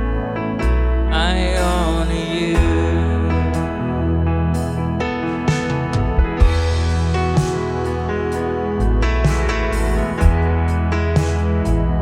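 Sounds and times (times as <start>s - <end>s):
instrumental worship music with guitar: 0.0s - 12.0s.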